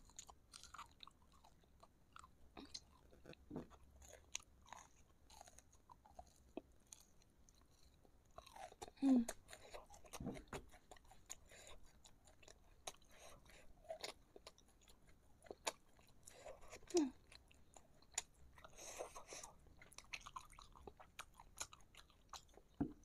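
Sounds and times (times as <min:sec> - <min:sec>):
close chewing with wet smacks: 0:00.0 - 0:23.0.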